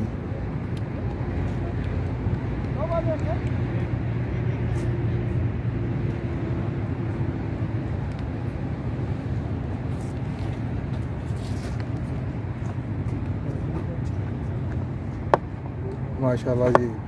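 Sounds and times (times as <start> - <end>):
faint distant voices: 0.0 - 17.0
haze of noise: 0.0 - 17.0.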